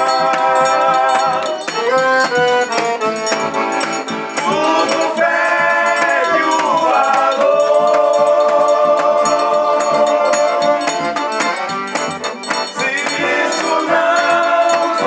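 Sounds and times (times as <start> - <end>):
accordion: 0.0 - 15.0
bass drum beats: 0.0 - 15.0.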